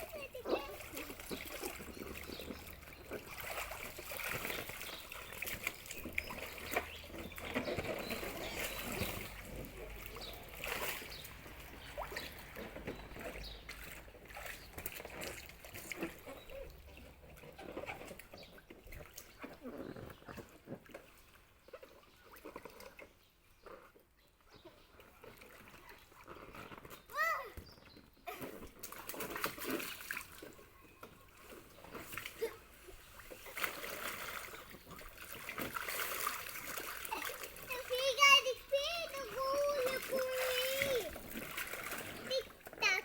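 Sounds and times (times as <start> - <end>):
water splashing and trickling: 0.0 - 43.0.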